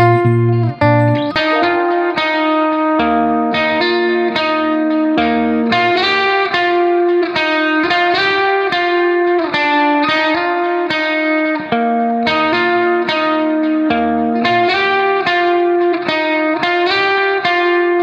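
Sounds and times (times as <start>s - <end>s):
guitar melody over chords: 0.0s - 18.0s.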